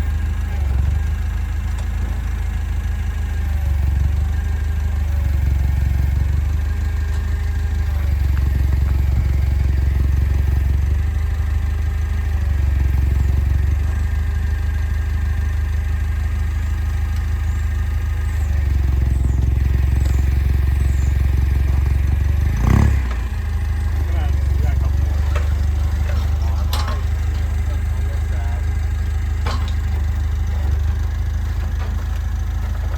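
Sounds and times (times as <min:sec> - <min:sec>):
vehicle engine running: 0:00.0 - 0:32.9.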